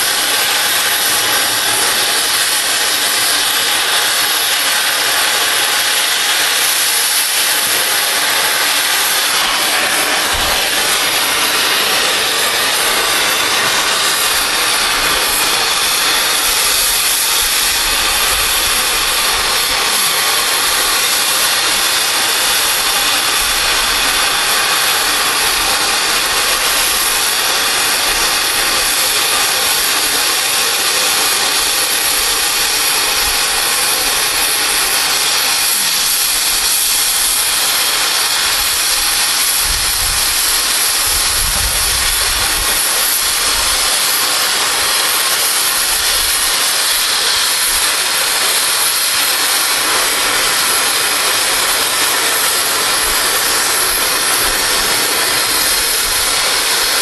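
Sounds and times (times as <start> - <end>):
cutting torch hissing: 0.0 - 57.0.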